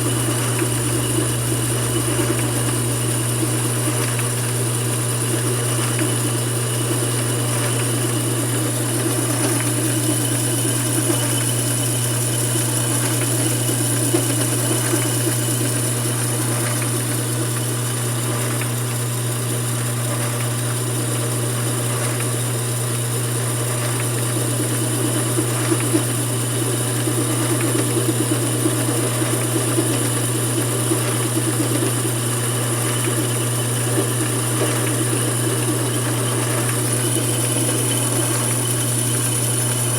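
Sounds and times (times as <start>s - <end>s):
lathe motor hum and whine: 0.0s - 39.9s.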